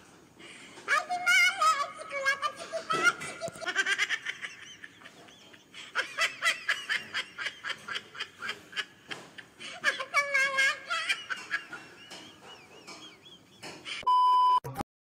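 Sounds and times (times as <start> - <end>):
high-pitched laughter: 0.9 - 14.0.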